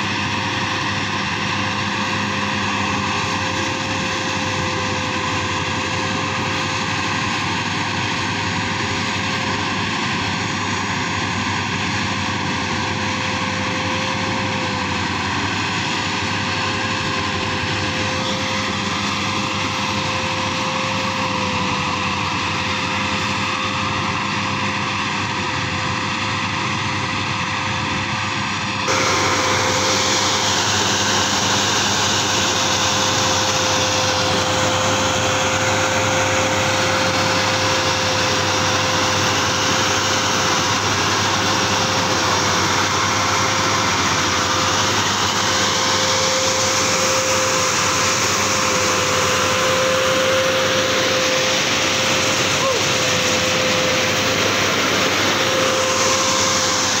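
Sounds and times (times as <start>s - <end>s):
combine harvester drone: 0.0s - 57.0s.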